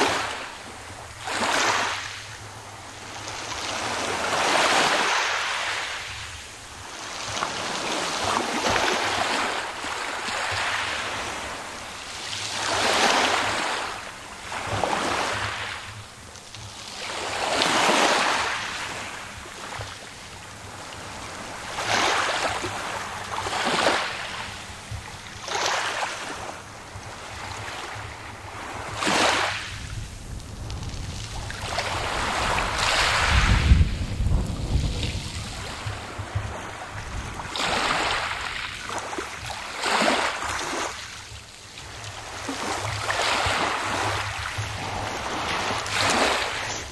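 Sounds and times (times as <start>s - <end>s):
small waves washing onto shore: 0.0s - 46.9s.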